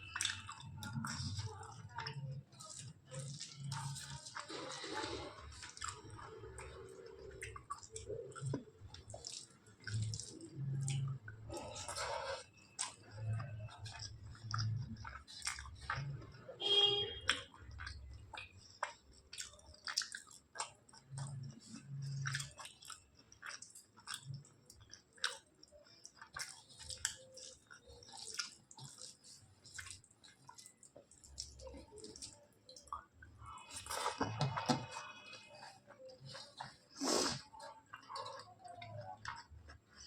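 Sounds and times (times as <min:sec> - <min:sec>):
person chewing with mouth smacks: 0:00.0 - 0:16.6, 0:17.2 - 0:40.0.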